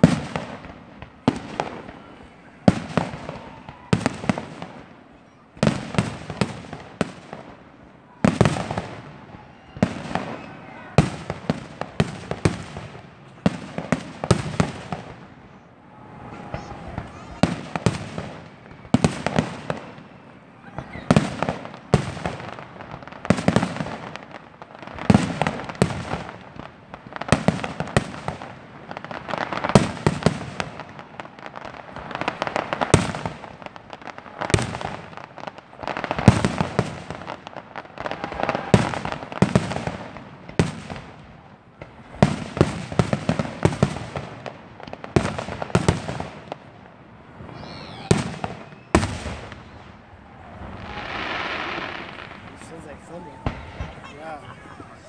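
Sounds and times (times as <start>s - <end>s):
fireworks booming: 0.0s - 55.0s
fireworks crackling: 0.0s - 55.0s.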